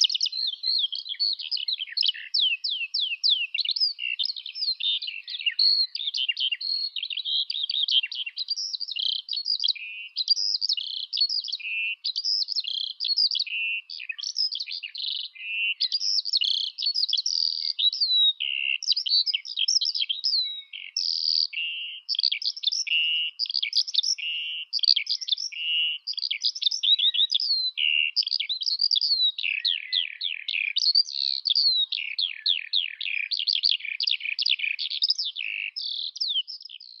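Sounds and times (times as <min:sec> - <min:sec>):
skylark singing: 0:00.0 - 0:37.0.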